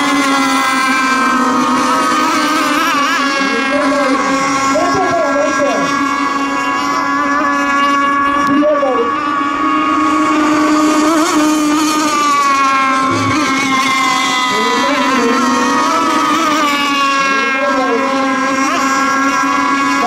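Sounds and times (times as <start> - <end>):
rc boat motors whining: 0.0 - 20.0.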